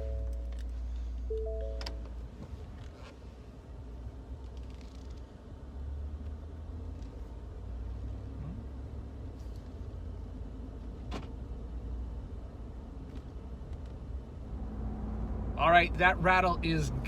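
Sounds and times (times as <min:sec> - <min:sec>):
truck engine low rumble: 0:00.0 - 0:17.0.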